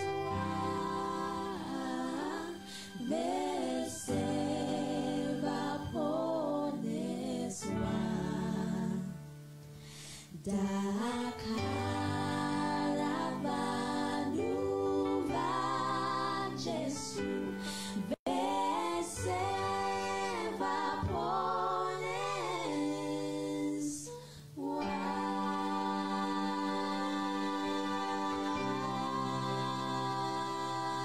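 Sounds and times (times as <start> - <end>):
female trio singing gospel harmony: 0.0 - 31.0.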